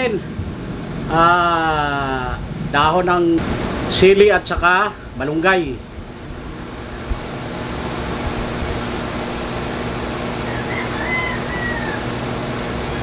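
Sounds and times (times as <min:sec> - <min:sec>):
range hood fan running: 0:00.0 - 0:13.0.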